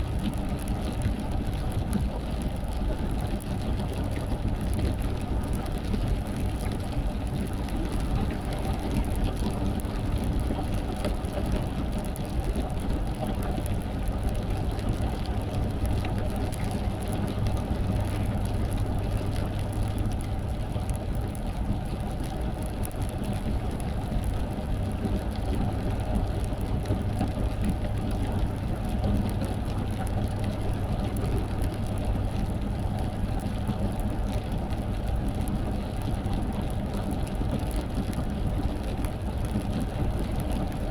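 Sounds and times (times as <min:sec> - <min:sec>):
rain pattering on car: 0:00.0 - 0:40.9.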